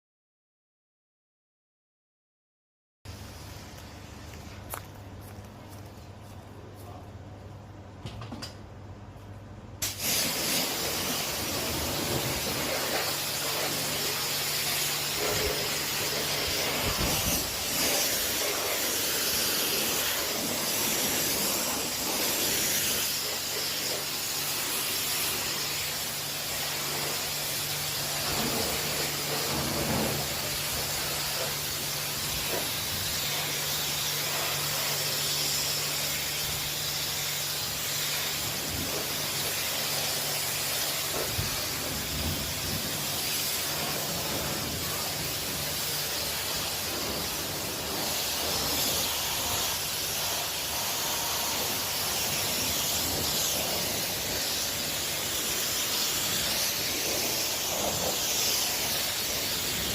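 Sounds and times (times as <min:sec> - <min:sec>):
loud hiss of spray: 0:09.8 - 0:59.9.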